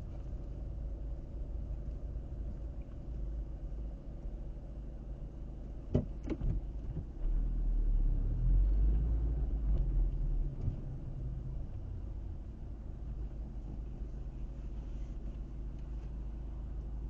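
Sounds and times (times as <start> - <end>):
tyres and engine rumble: 0.0 - 17.0.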